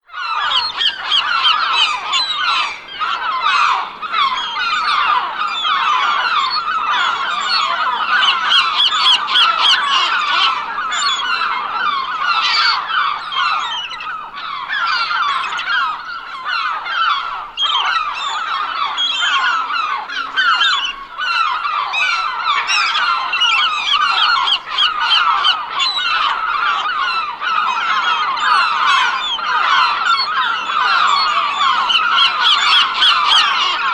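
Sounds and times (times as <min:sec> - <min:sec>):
flock of seagulls calling: 0:00.0 - 0:33.9.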